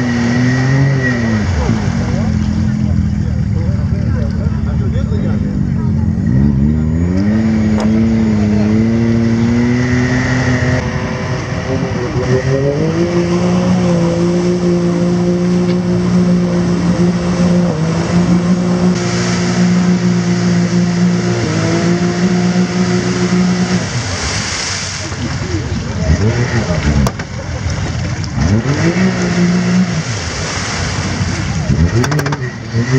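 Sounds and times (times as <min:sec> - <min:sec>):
engine revving hard: 0:00.0 - 0:03.9, 0:05.3 - 0:25.2, 0:26.0 - 0:27.2, 0:28.3 - 0:32.9.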